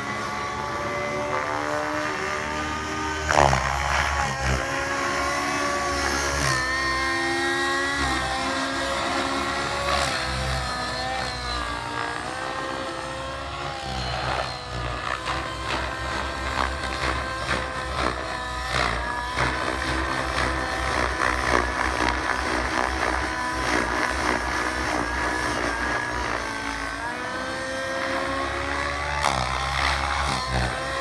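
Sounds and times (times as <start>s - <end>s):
model helicopter engine running: 0.0s - 31.0s.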